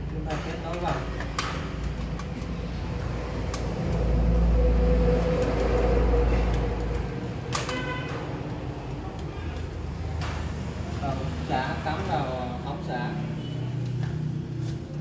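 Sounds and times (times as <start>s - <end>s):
passing vehicle engine rumble: 1.1s - 15.0s.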